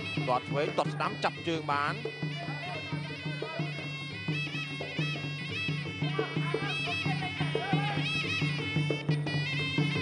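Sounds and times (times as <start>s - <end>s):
reed oboe nasal melody: 0.0s - 10.0s
steady drum beat: 0.0s - 10.0s.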